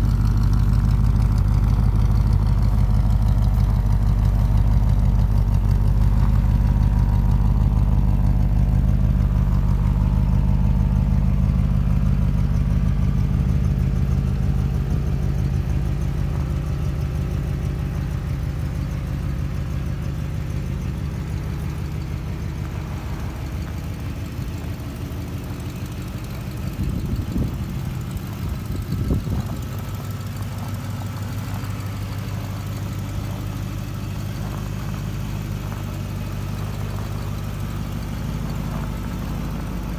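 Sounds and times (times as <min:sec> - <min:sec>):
car engine idling through exhaust: 0:00.0 - 0:39.9.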